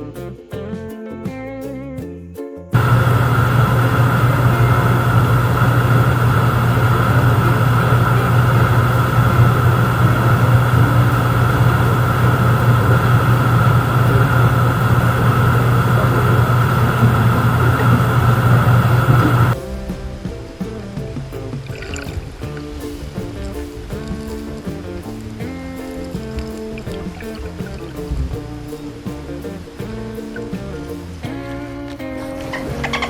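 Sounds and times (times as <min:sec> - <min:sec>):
engine running steadily: 0:02.8 - 0:33.0.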